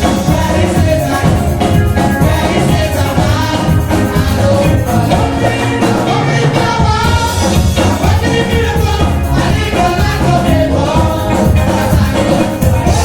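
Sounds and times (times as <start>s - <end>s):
instrumental backing: 0.0s - 13.0s
vocal group singing gospel: 0.0s - 13.0s.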